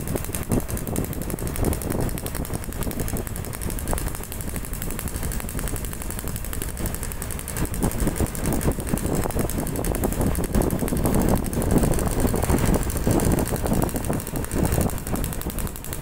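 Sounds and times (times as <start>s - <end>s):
two-stroke motorcycle exhaust rattling: 0.0s - 16.0s.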